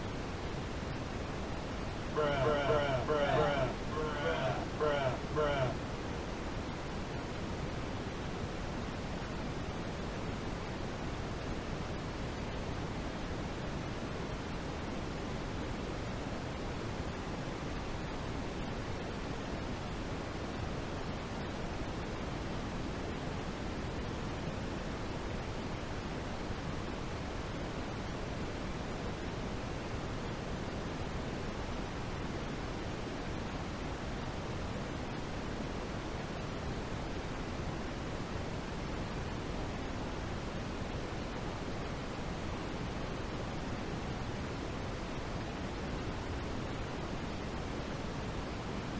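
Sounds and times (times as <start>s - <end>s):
white noise hiss: 0.0s - 48.9s.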